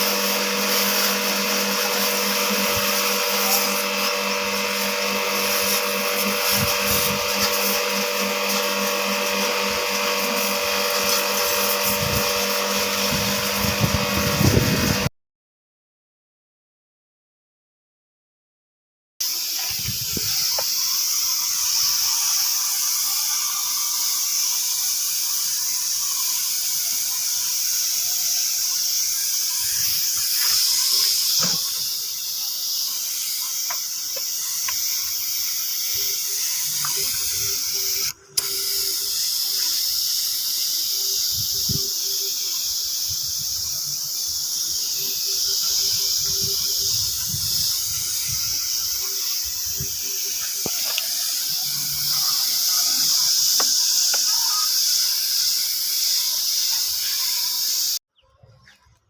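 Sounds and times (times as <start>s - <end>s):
spray gun hissing: 0.0s - 15.1s, 19.2s - 58.0s.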